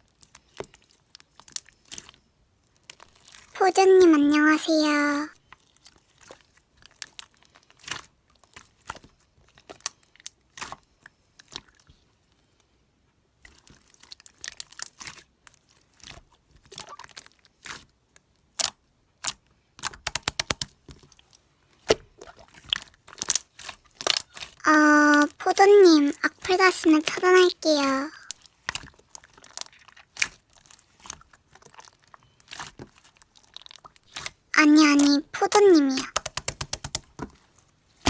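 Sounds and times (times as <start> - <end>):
slime squeezed crackling and popping: 0.0 - 12.0, 13.4 - 37.2.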